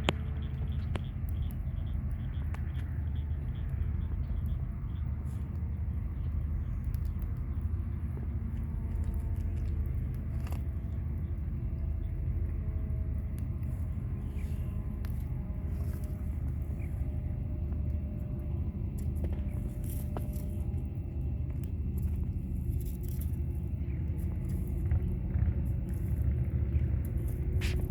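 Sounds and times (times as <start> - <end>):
low rumble: 0.0 - 27.9.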